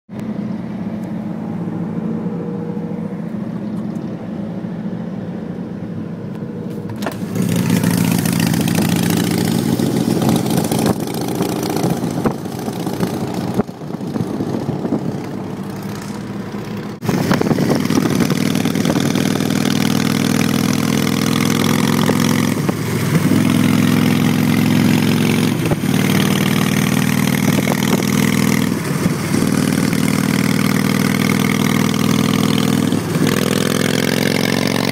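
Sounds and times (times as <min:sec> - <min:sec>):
motorcycle engine running: 0:06.5 - 0:34.9.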